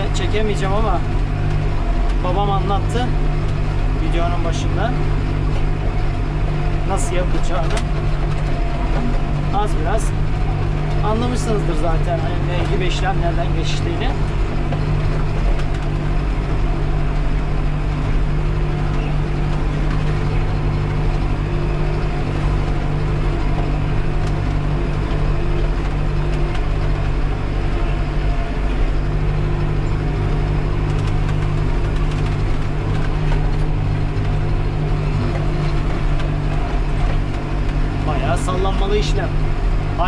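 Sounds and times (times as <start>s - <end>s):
tractor diesel engine droning: 0.0s - 40.0s.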